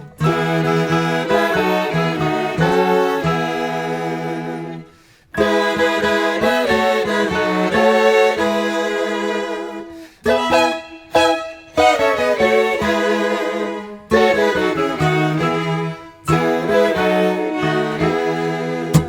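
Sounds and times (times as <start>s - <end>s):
reed instrument melody with accompaniment: 0.0s - 19.0s.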